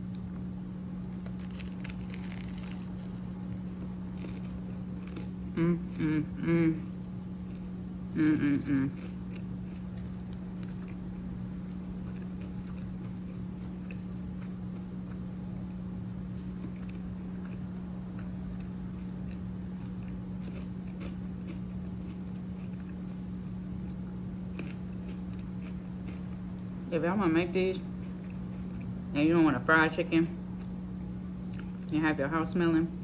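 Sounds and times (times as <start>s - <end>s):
chewing and biting sandwich: 0.0s - 6.2s, 6.8s - 26.9s, 27.9s - 29.1s, 31.4s - 31.9s
steady low hum: 0.0s - 33.0s.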